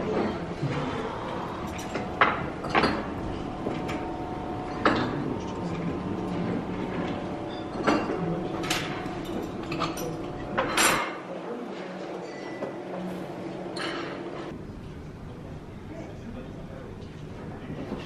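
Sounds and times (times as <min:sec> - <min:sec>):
crockery and cutlery clinking: 0:00.0 - 0:14.6
background chatter: 0:00.0 - 0:18.0.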